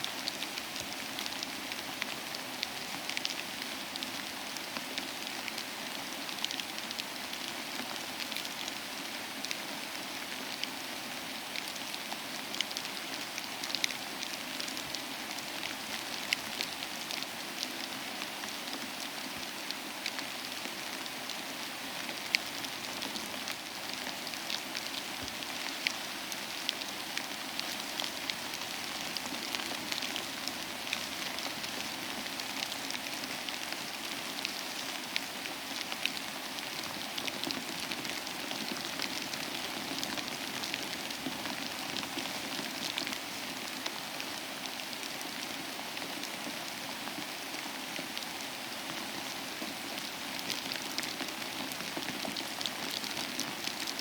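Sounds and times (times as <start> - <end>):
rain falling: 0.0 - 54.0
raindrops pattering on a surface: 0.1 - 54.0.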